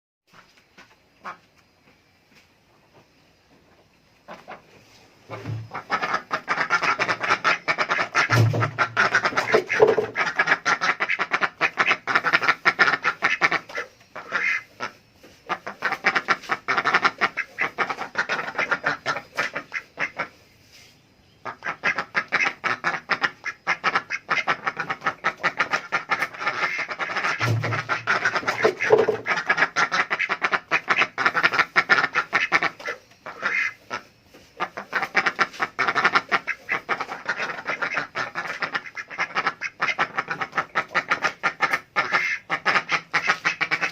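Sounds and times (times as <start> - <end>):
ducks quacking: 1.2 - 1.5, 4.3 - 20.4, 21.4 - 43.9.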